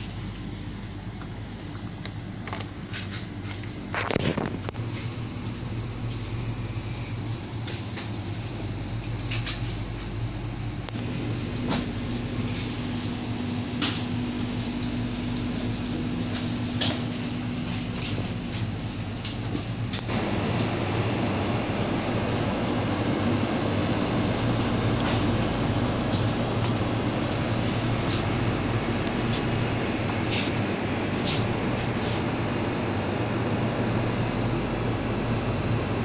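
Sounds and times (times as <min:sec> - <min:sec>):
refrigerator electric hum: 0:00.0 - 0:36.0.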